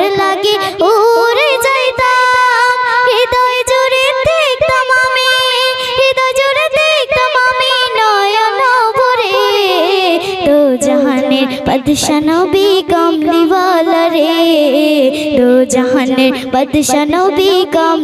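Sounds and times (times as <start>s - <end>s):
girl singing into microphone: 0.0s - 18.0s.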